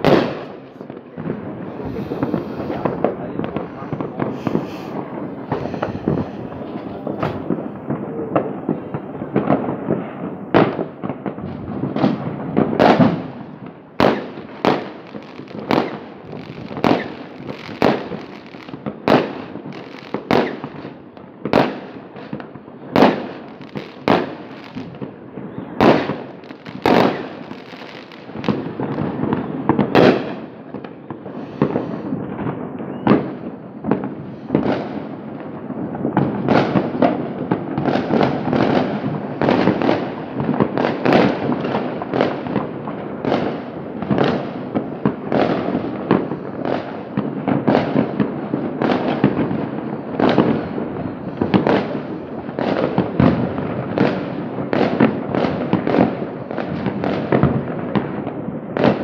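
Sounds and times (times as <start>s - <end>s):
distant fireworks rumble and crackle: 0.0s - 59.0s
fireworks banging: 0.0s - 59.0s.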